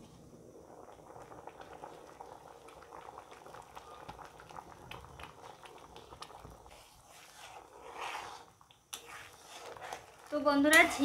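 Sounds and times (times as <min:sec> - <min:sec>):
lentils bubbling and popping: 0:00.0 - 0:11.0.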